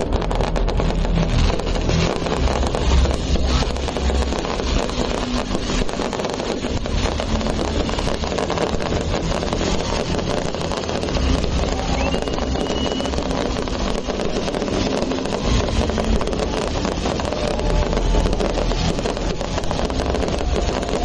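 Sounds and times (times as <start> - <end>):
firework whistle: 0.0 - 21.0
fireworks rumbling and crackling: 0.0 - 21.0.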